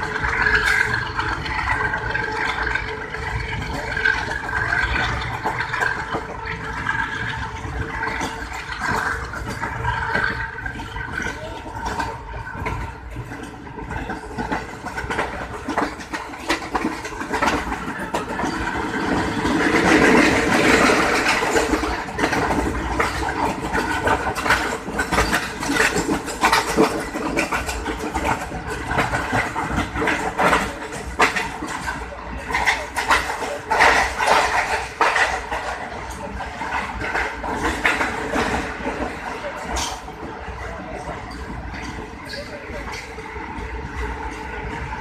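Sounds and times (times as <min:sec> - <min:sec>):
train rushing rumble: 0:00.0 - 0:45.0
wheels clicking over rail joints: 0:00.0 - 0:45.0.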